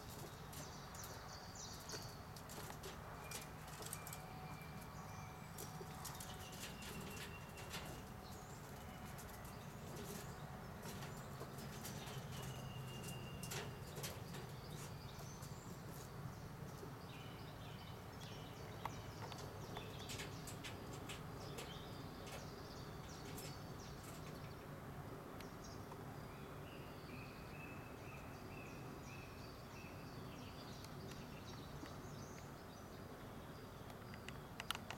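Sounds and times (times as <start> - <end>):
low background hum: 0.0 - 34.8
small birds chirping: 0.0 - 34.9.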